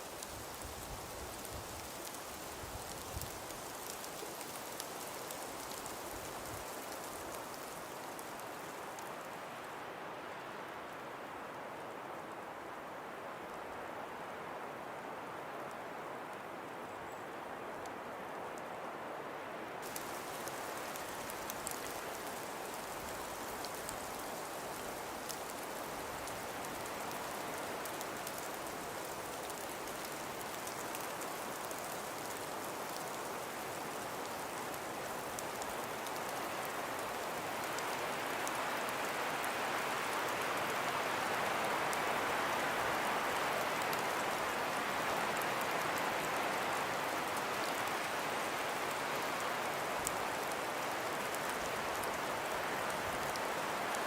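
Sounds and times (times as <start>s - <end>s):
ticks of snow grains: 0.0s - 9.4s, 19.8s - 54.0s.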